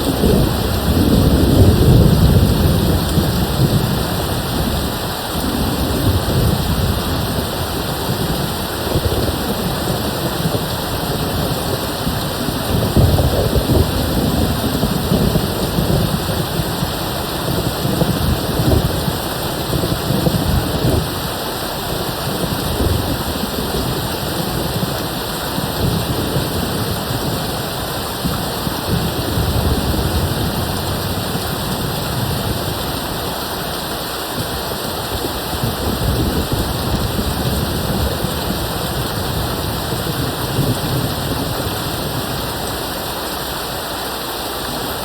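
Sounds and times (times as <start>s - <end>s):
distant thunder rumbling: 0.0s - 43.0s
steady rain: 0.0s - 45.0s.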